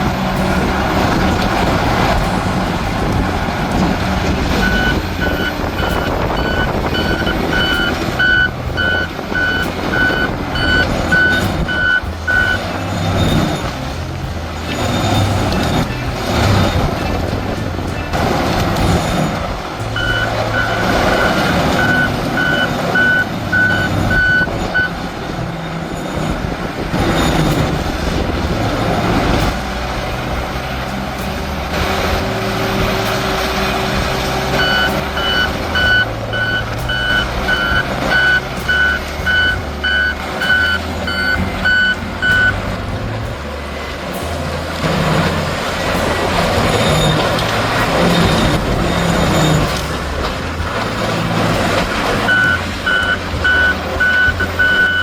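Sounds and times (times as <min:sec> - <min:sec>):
heavy machine engine running: 0:00.0 - 0:55.0
reversing alarm beeping: 0:00.2 - 0:26.4, 0:33.8 - 0:43.0, 0:44.8 - 0:55.0.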